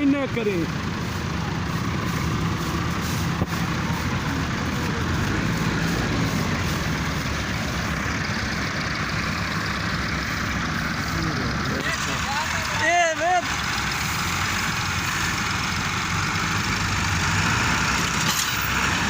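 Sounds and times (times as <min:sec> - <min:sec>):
tractor diesel engines running: 0:00.0 - 0:19.0.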